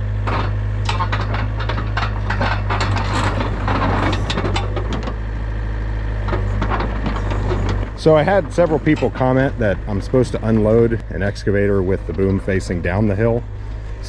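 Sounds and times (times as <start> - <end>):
excavator diesel engine running: 0.0 - 14.0
metal clanks and knocks: 0.2 - 14.0.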